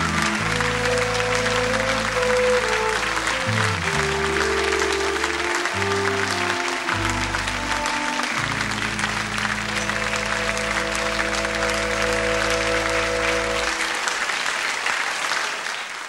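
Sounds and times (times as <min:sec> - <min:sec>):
theme music: 0:00.0 - 0:14.4
studio audience applause: 0:00.0 - 0:16.0.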